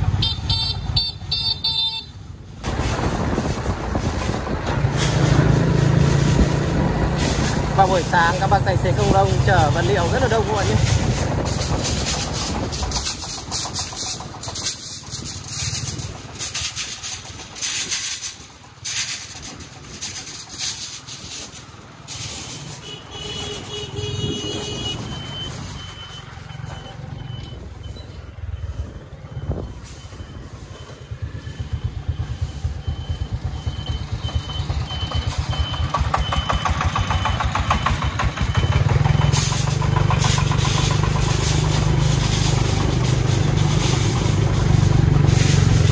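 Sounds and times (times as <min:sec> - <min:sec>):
diesel engines chugging: 0:00.0 - 0:45.9.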